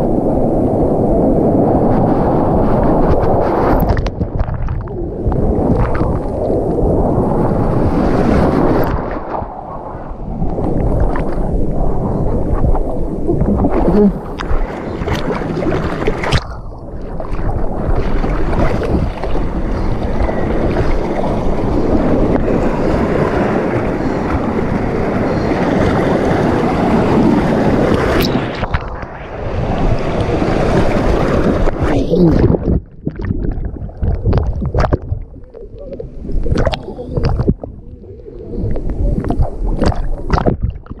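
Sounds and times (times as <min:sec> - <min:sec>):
rushing churning water: 0:00.0 - 0:41.0
water splashing and sloshing: 0:01.9 - 0:41.0.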